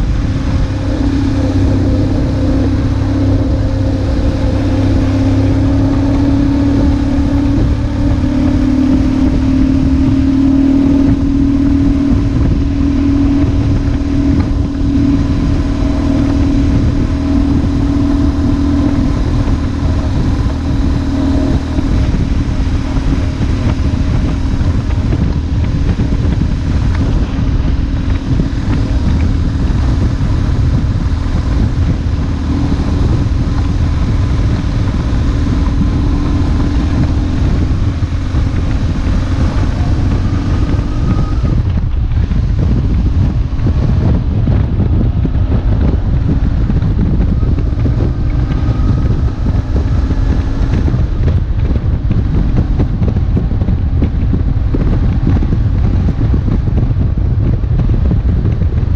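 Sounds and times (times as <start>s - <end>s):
motorcycle engine running: 0.0s - 58.9s
wind buffeting microphone: 0.0s - 58.9s.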